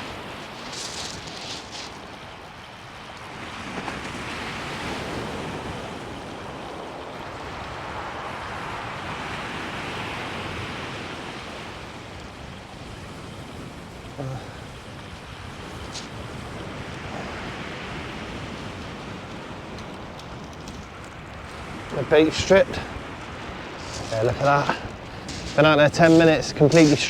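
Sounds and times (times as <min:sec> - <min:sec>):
waves breaking on shingle beach: 0:00.0 - 0:27.0.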